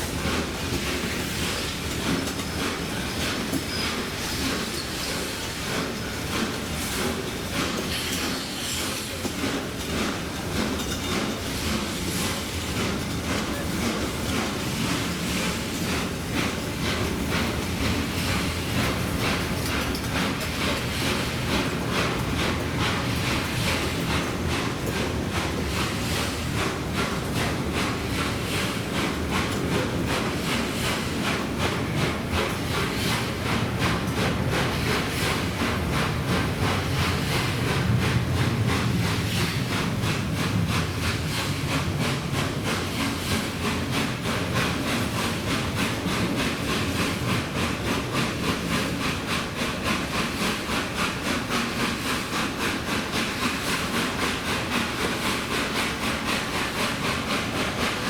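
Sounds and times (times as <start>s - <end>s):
steam locomotive chuffing: 0.0s - 58.0s
steam hissing: 0.2s - 58.0s.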